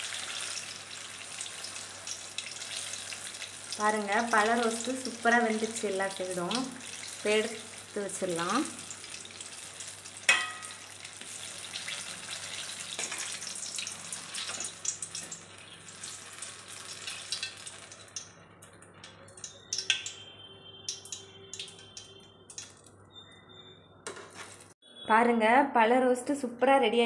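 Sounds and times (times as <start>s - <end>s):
deep-frying crackling sizzle: 0.0s - 23.2s.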